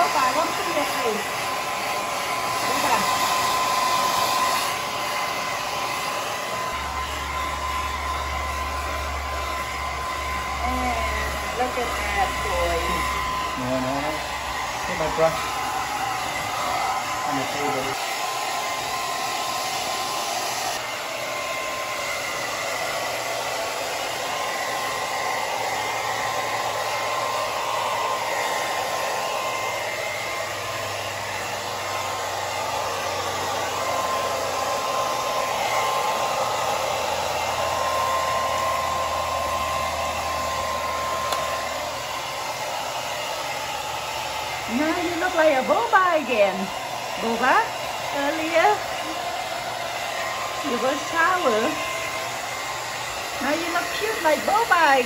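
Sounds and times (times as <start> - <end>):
hair dryer blowing with whine: 0.0 - 55.0.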